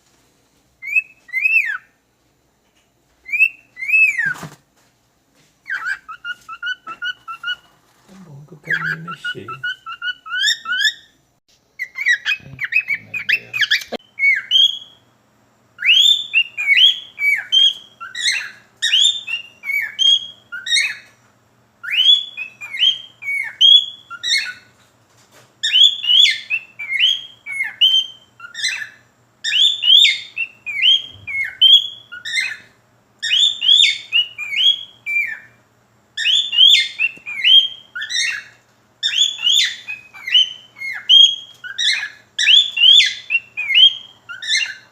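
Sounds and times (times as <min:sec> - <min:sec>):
cockatiel whistling: 0:00.8 - 0:01.9, 0:03.2 - 0:04.5, 0:05.6 - 0:07.7, 0:08.6 - 0:11.2, 0:11.8 - 0:15.0, 0:15.8 - 0:21.2, 0:21.8 - 0:24.7, 0:25.6 - 0:35.6, 0:36.2 - 0:44.9.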